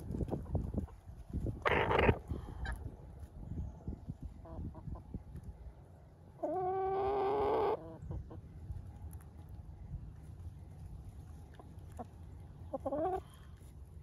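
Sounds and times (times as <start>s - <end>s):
chickens clucking softly: 0.0s - 5.6s, 6.2s - 13.8s.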